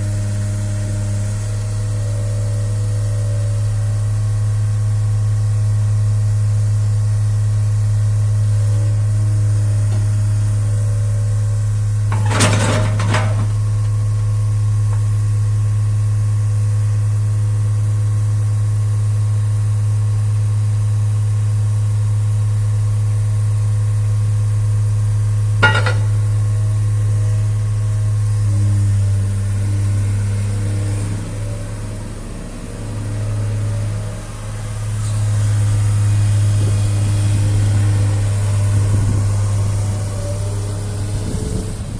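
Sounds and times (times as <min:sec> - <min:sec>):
excavator diesel engine idling: 0:00.0 - 0:41.9.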